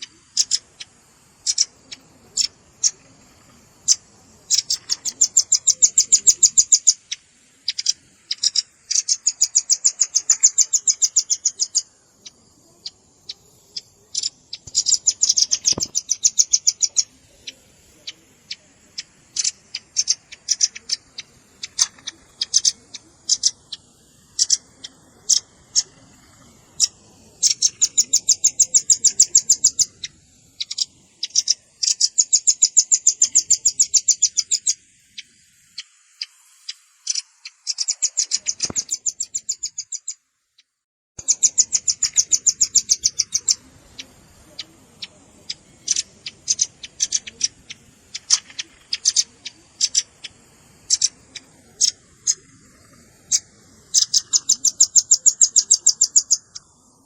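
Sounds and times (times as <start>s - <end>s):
nuthatch trills of sharp chips: 0.0s - 3.1s, 3.8s - 40.2s, 41.2s - 56.9s.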